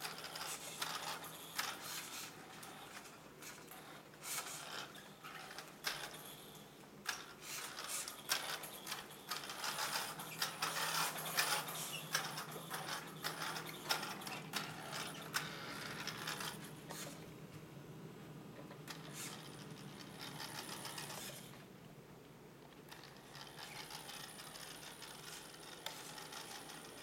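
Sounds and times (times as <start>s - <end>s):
toy car gears clicking and rattling: 0.0s - 3.1s, 4.2s - 6.5s, 7.1s - 16.7s, 18.9s - 21.5s, 22.9s - 27.0s
steady low hum: 0.0s - 27.0s.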